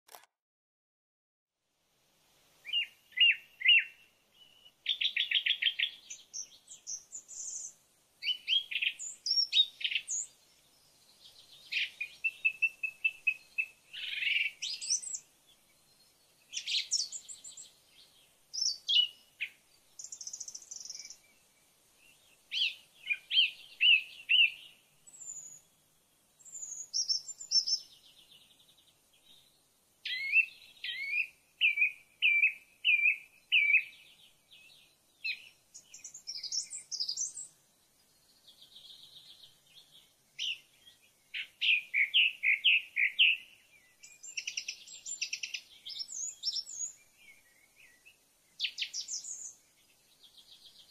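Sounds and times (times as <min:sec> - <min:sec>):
songbird singing chirps and trills: 0:01.8 - 0:50.9.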